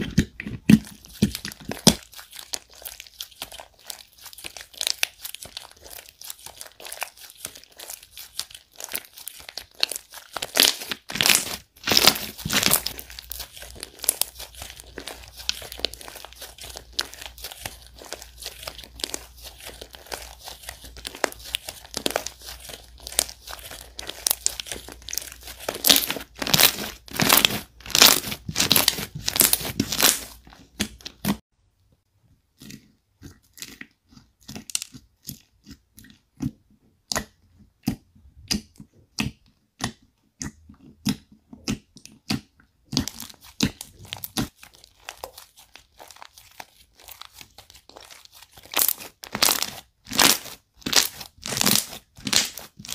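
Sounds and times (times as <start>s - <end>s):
slime crackling and popping: 0.0s - 31.4s, 41.0s - 52.9s.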